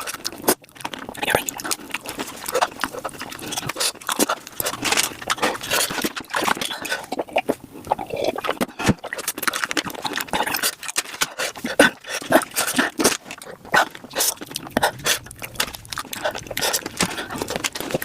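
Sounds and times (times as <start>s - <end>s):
sped-up chewing and crunching: 0.0s - 18.0s.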